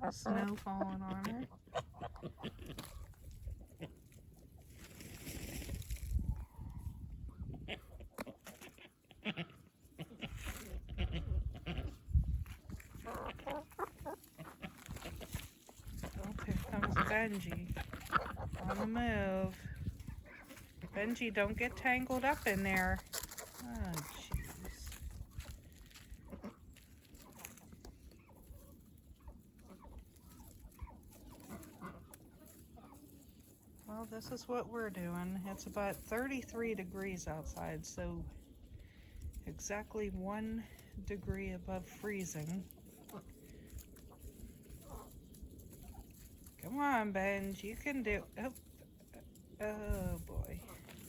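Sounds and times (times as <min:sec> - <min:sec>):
ducks and geese calling: 0:00.0 - 0:05.4, 0:06.2 - 0:51.0.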